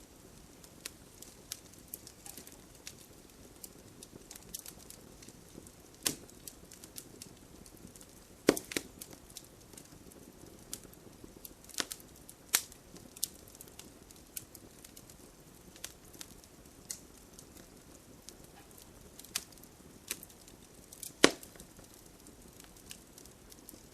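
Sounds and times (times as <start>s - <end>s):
campfire crackling and popping: 0.0s - 23.9s
low hiss of burning: 0.0s - 23.9s.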